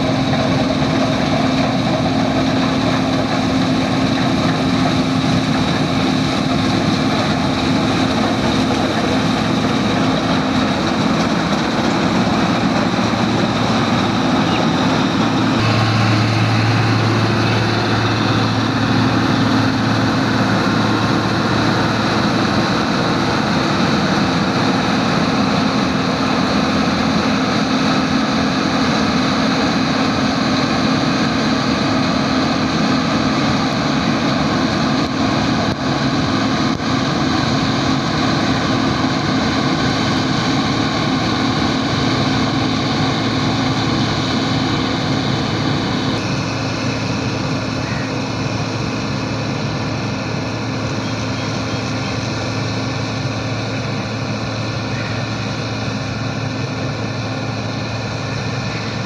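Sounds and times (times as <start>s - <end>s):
combine harvester running: 0.0s - 59.0s
deeper hum: 0.0s - 59.0s.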